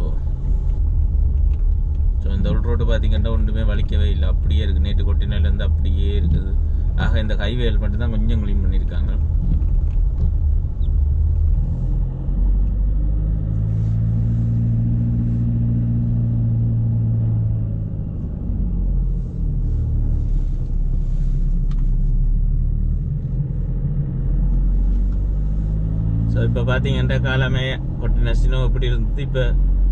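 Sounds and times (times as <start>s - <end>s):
car engine and road rumble: 0.0s - 29.9s.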